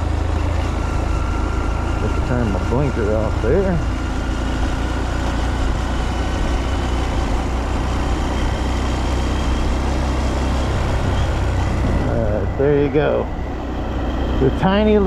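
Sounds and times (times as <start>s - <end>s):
motorcycle engine cruising: 0.0s - 15.0s
rushing wind: 0.0s - 15.0s.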